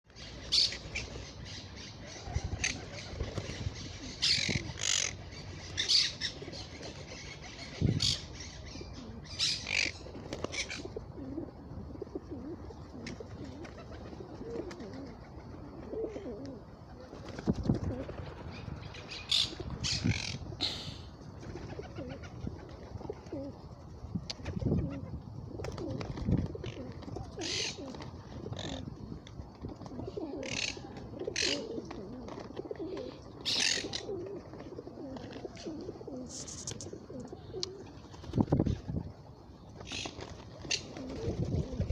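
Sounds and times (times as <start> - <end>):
birds cooing: 0.1 - 23.8, 24.4 - 41.9.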